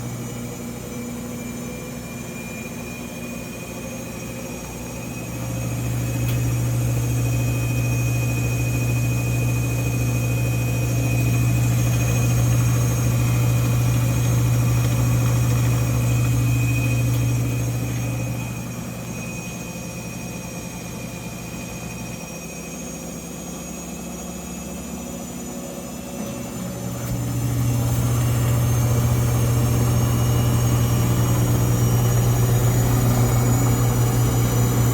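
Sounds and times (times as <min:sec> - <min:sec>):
washer spin drone: 0:00.0 - 0:34.9.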